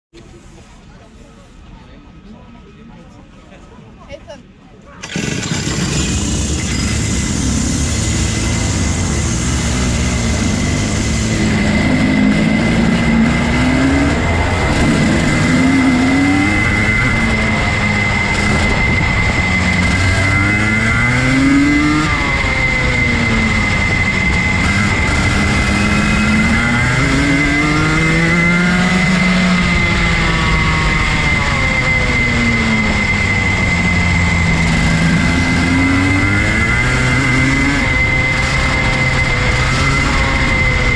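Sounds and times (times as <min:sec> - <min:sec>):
steady high whine: 0:00.2 - 0:40.9
kart engine revving: 0:05.0 - 0:40.9.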